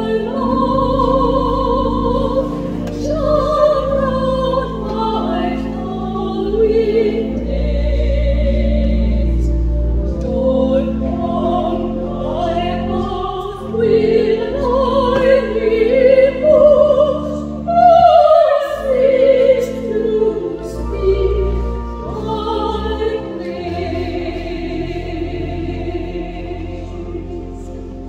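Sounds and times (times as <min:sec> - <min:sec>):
low accompaniment: 0:00.0 - 0:28.0
two sopranos singing: 0:00.0 - 0:28.0.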